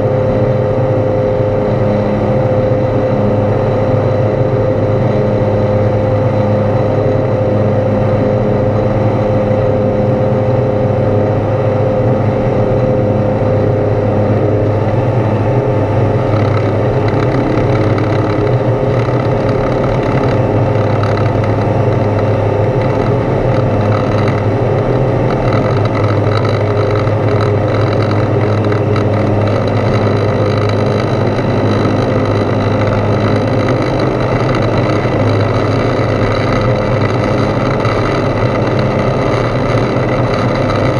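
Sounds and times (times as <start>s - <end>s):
aircraft engine drone in cabin: 0.0s - 40.9s.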